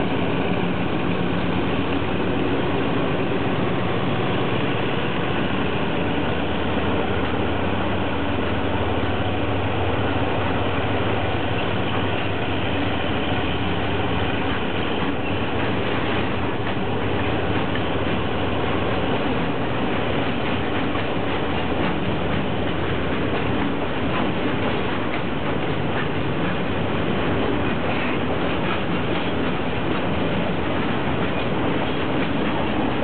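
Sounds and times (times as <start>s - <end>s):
freight train rolling past: 0.0s - 33.0s
steel wheels clacking over rail joints: 0.0s - 33.0s.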